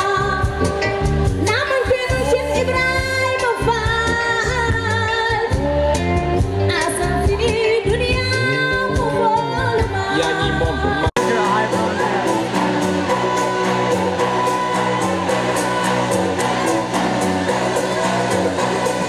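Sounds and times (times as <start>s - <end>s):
bass guitar: 0.0s - 19.0s
guitars: 0.0s - 19.0s
violin: 0.0s - 19.0s
woman singing lead: 0.0s - 19.0s.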